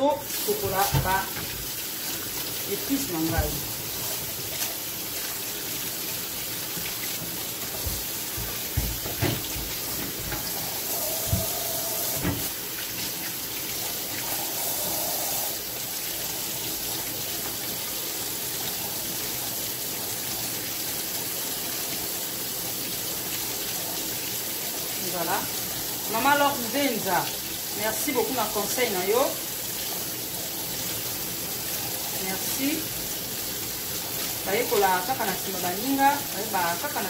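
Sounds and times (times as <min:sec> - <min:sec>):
water running from kitchen tap: 0:00.0 - 0:37.0.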